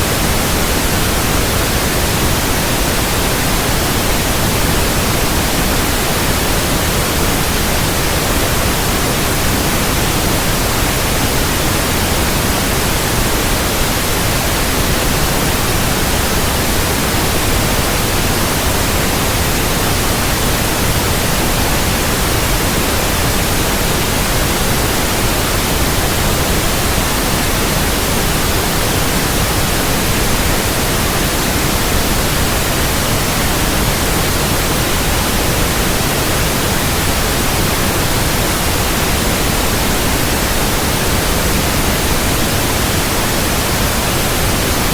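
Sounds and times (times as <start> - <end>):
white noise hiss: 0.0 - 44.9.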